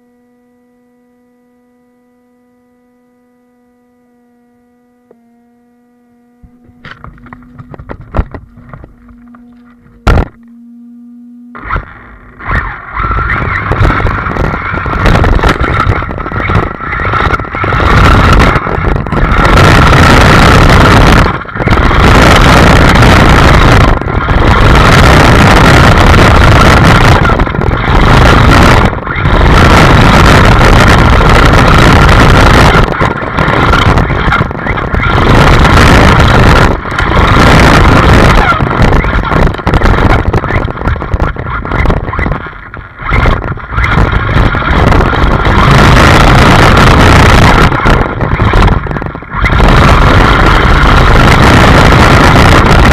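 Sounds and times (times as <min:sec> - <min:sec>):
faint steady hum: 0:00.0 - 0:52.9
rc car motor and tyres on rough ground: 0:00.0 - 0:52.9.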